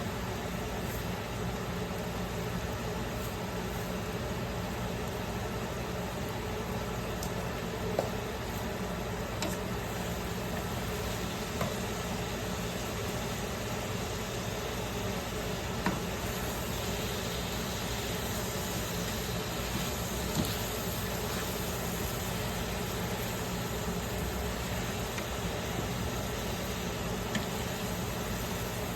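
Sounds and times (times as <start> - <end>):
mechanical hum and hiss: 0.0 - 28.9.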